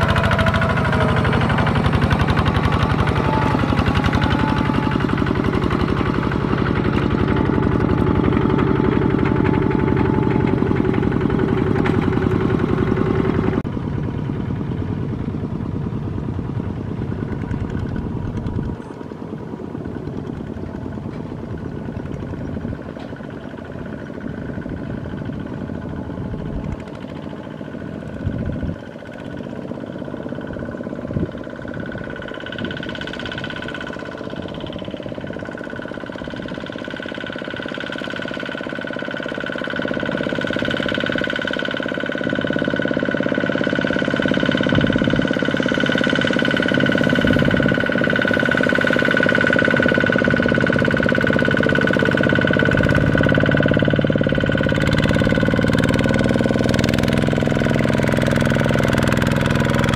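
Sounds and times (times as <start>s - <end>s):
diesel tractor engines running: 0.0s - 59.9s.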